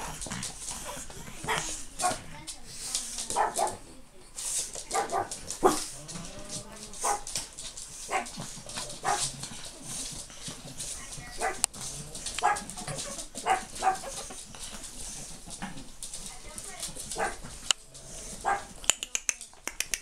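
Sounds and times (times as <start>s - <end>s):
puppies barking and yipping: 0.0s - 2.5s, 3.2s - 3.9s, 4.8s - 18.9s.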